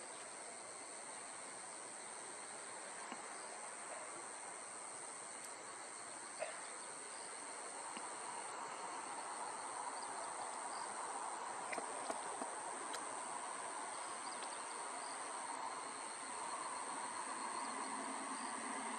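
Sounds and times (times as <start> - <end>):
background hiss: 0.0 - 18.9
crickets trilling: 0.0 - 18.9.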